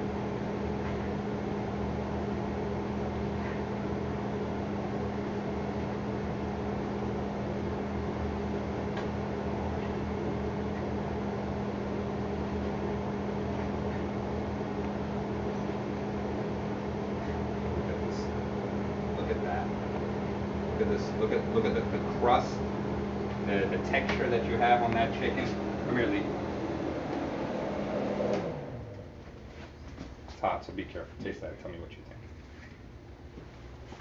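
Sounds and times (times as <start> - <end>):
range hood fan humming: 0.0 - 34.0.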